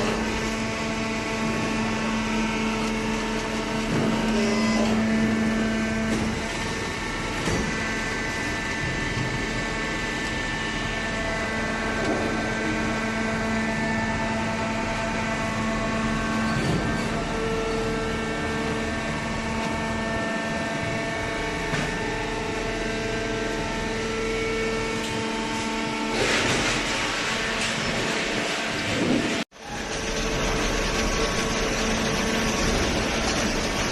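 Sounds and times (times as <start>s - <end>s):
baler machine hum: 0.0s - 33.9s.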